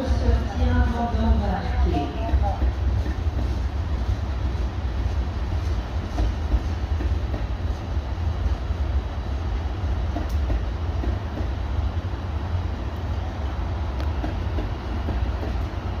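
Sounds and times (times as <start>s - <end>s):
freight train cars rumbling: 0.0s - 16.0s.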